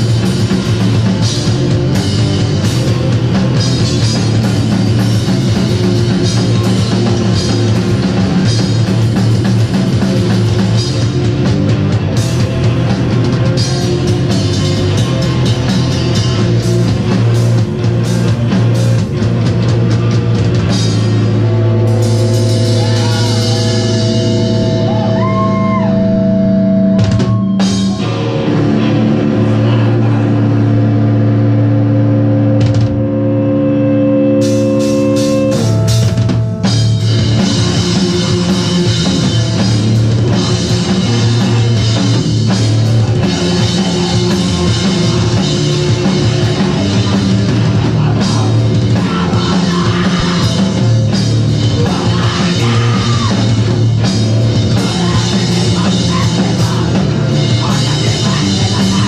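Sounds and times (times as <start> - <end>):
distorted electric guitars: 0.0 - 59.0
drum kit: 0.0 - 59.0.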